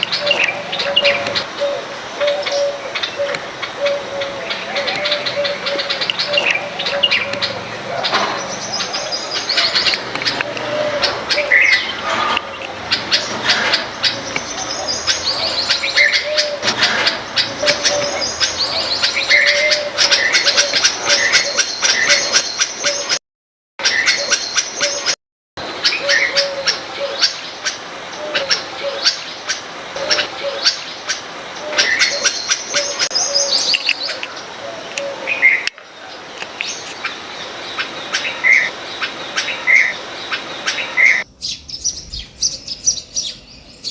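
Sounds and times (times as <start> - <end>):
birds chirping and twittering: 0.0 - 23.2, 23.8 - 43.9.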